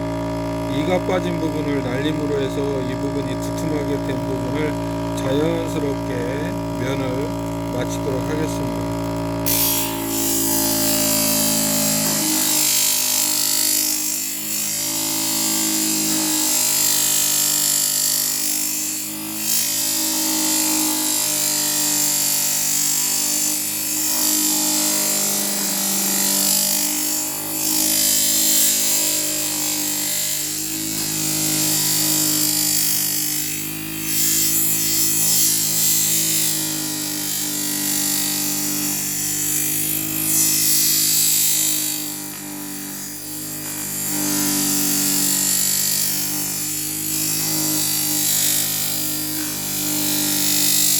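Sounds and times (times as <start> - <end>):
motor hum: 0.0 - 50.9
knife blade grinding hiss: 9.4 - 50.9.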